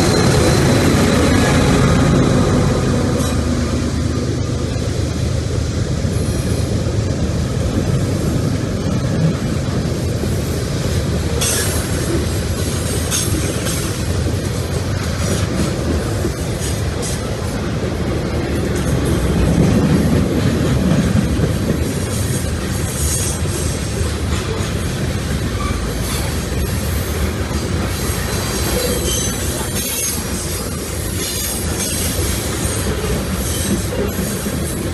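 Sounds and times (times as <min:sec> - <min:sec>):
freight train wheels clacking: 0:00.0 - 0:34.9.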